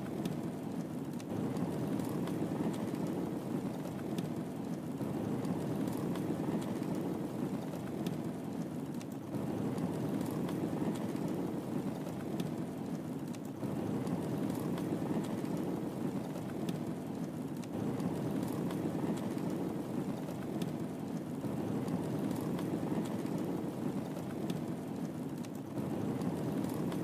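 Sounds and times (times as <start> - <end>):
fire crackling and popping: 0.0 - 27.0
wood fire burning: 0.0 - 27.0.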